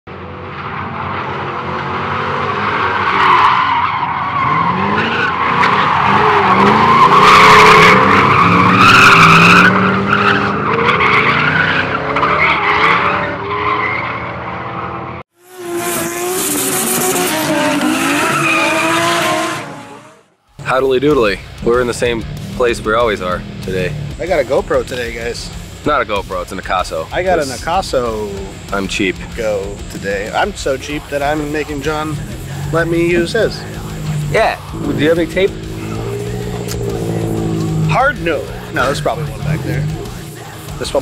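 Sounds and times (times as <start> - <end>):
car engines revving: 0.1 - 41.0.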